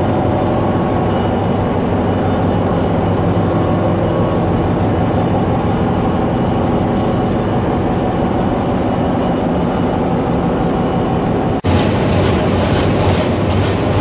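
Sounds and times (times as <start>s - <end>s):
engine room machinery drone: 0.0s - 14.0s.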